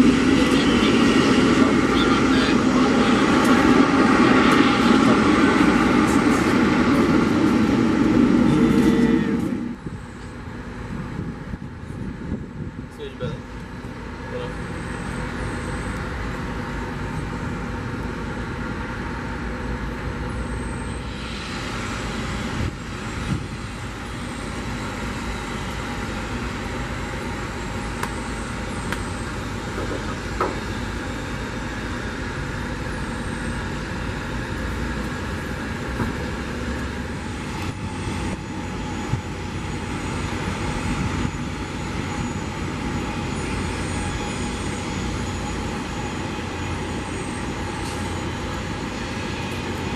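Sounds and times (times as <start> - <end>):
jet engines taxiing: 0.0 - 49.9.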